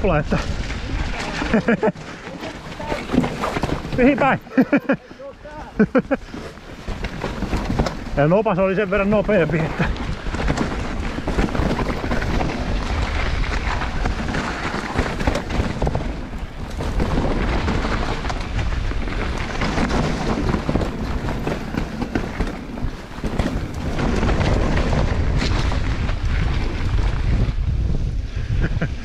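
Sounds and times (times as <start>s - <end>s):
bike knocking and rattling: 0.0s - 29.0s
tyres rumbling on dirt and rock: 0.0s - 29.0s
wind buffeting microphone: 0.0s - 29.0s.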